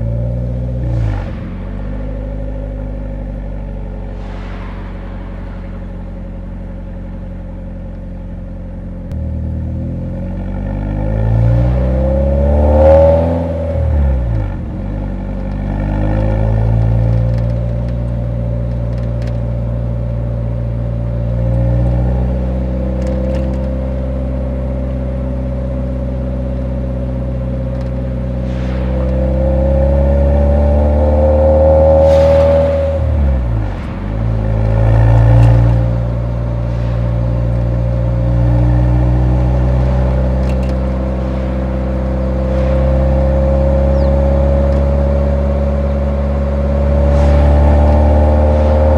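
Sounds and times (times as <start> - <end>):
car engine through muffler: 0.0 - 48.9.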